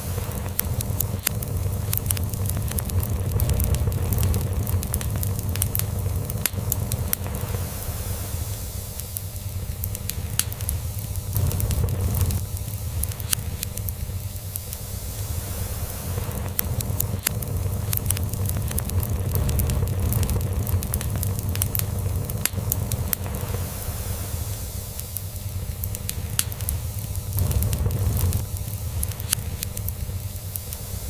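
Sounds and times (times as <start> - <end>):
log fire crackling and popping: 0.0 - 31.0.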